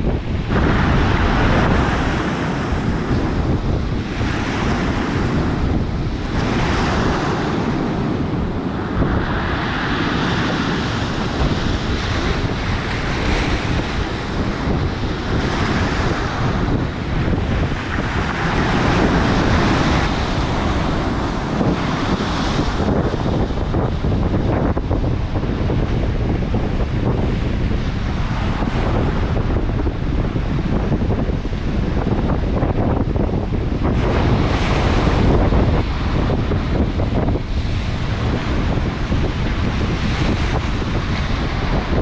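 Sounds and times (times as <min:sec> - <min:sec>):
storm surf breaking on shore: 0:00.0 - 0:42.0
wind buffeting microphone: 0:00.0 - 0:42.0.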